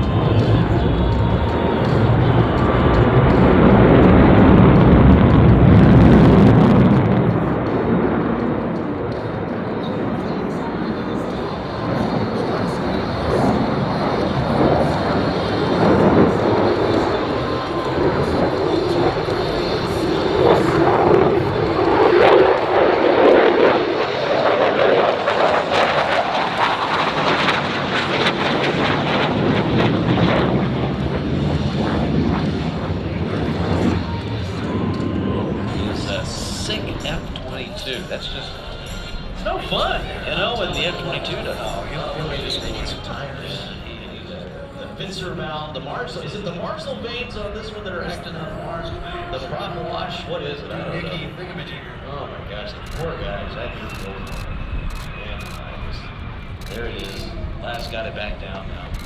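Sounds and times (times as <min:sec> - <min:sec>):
jet engine roar: 0:00.0 - 0:59.0.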